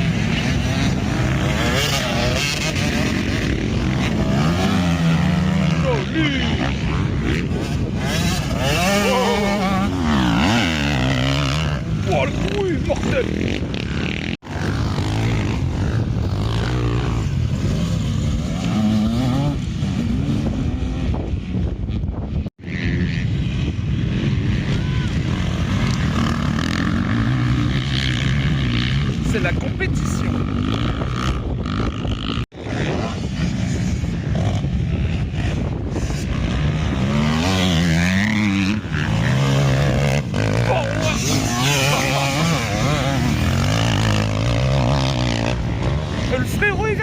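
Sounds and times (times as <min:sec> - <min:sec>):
motocross bike engines revving: 0:00.0 - 0:47.0.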